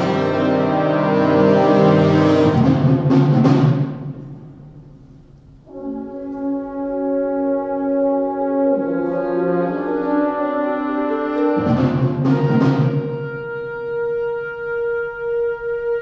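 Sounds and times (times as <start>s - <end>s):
brass and winds holding chord: 0.0s - 4.2s, 5.6s - 16.0s
brass chords: 0.0s - 16.0s.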